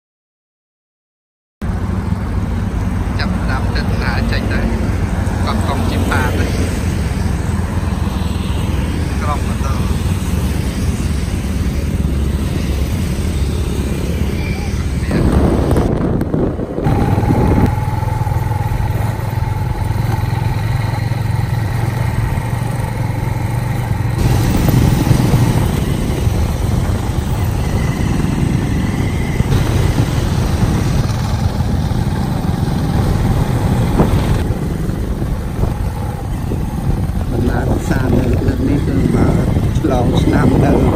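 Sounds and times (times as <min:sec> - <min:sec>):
motorcycle engine running: 0:01.6 - 0:40.9
road and wind noise: 0:01.6 - 0:40.9.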